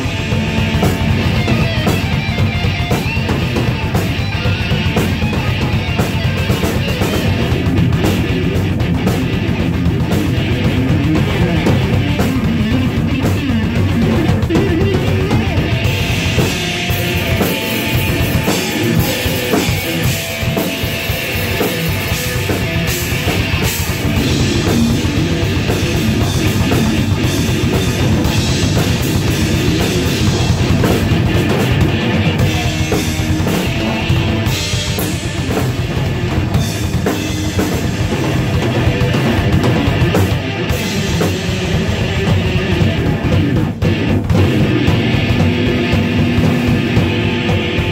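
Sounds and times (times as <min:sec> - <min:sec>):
heavy metal guitar and drums: 0:00.0 - 0:47.9.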